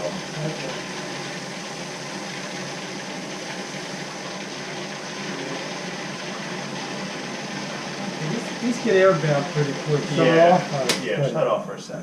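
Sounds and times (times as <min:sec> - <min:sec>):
water heater pump rushing: 0:00.0 - 0:11.6.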